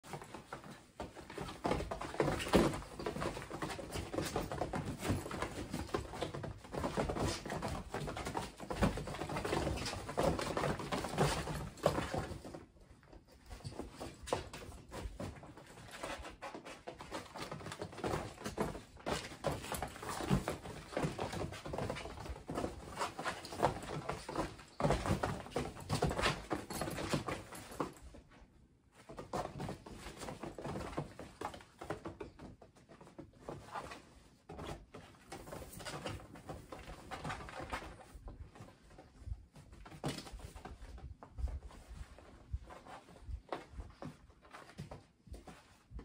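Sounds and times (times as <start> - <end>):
kittens scampering on fabric: 0.0 - 46.0.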